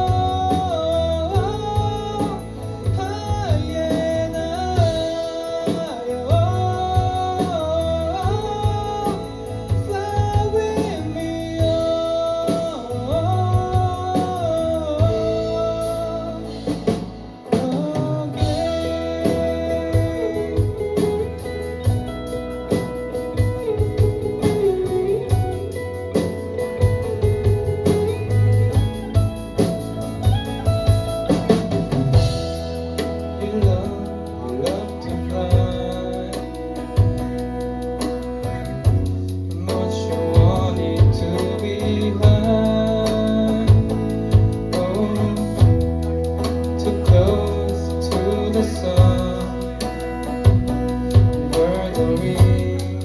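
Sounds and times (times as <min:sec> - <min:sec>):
rock band playing: 0:00.0 - 0:53.0
sliding lead guitar melody: 0:00.0 - 0:53.0.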